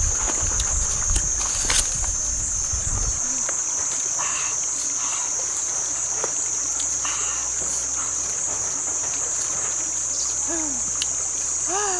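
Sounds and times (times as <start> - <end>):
insects droning: 0.0 - 11.9.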